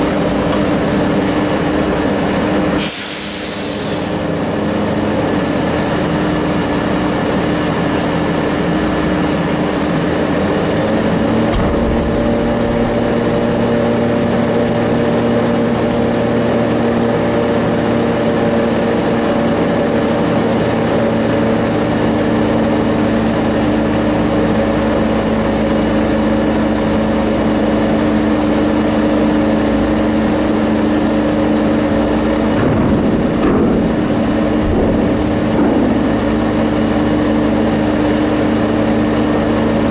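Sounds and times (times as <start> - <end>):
crane diesel engine running: 0.0 - 39.9.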